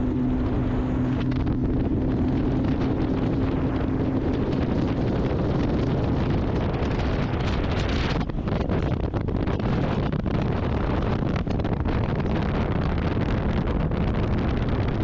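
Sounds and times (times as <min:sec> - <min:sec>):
hull rushing over water: 0:00.0 - 0:15.0
outboard motor humming: 0:00.0 - 0:15.0
wind buffeting microphone: 0:00.0 - 0:15.0.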